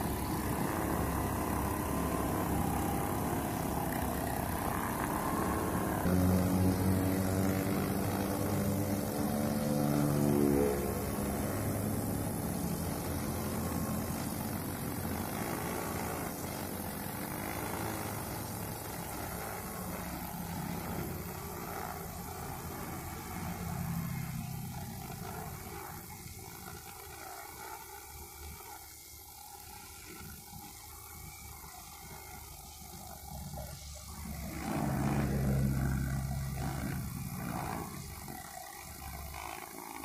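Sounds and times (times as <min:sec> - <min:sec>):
brush cutter engine running: 0:00.0 - 0:28.7, 0:32.1 - 0:40.0
nylon line cutting grass: 0:00.0 - 0:28.9, 0:32.0 - 0:40.0.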